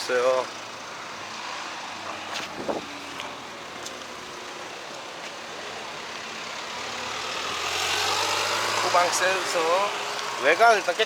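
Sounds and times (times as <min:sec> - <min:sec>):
outdoor traffic noise: 0:00.0 - 0:11.0
vehicle engine idling: 0:00.0 - 0:11.0.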